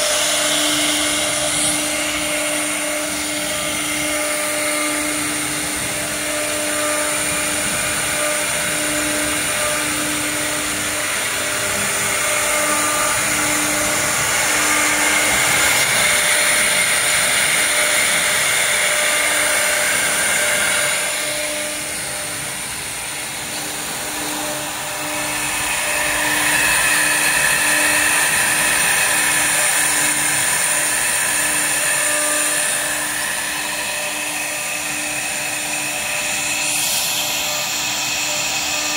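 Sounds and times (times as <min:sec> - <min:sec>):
bit cutting wood: 0:00.0 - 0:38.9
router spindle high whine: 0:00.0 - 0:38.9
low pulsing hum: 0:00.4 - 0:36.4.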